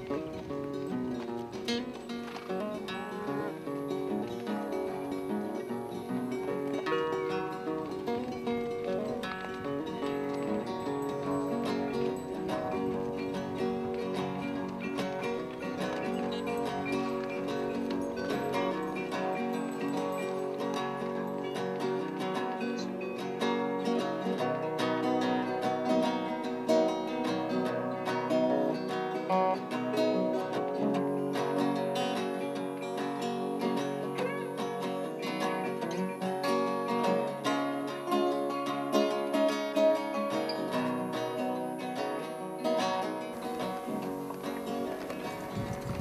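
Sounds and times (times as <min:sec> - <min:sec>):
acoustic guitar music: 0:00.0 - 0:46.0.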